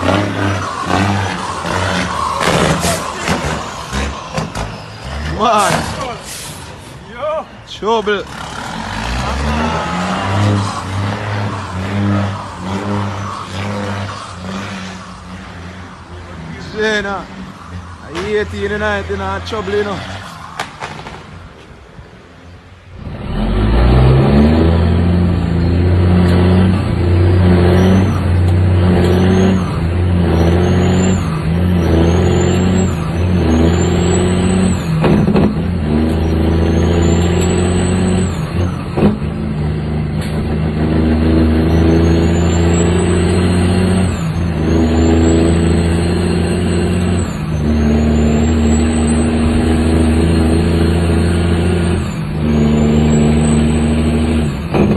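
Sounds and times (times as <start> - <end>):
truck diesel engine shifting gears: 0.0 - 7.0, 7.7 - 20.9, 23.0 - 54.9.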